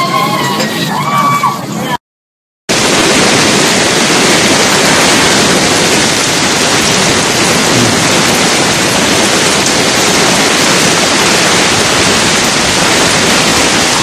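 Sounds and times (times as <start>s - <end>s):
floodwater rushing: 2.7s - 14.0s
heavy rain pouring: 2.7s - 14.0s.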